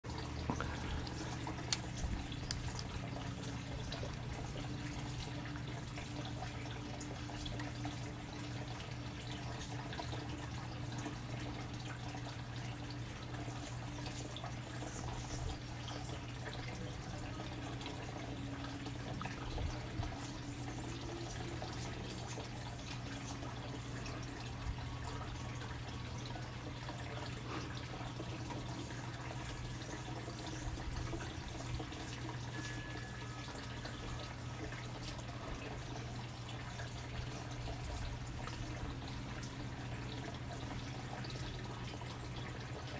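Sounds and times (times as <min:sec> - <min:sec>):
water trickling and dripping: 0:00.0 - 0:42.9
steady low hum: 0:00.1 - 0:42.9.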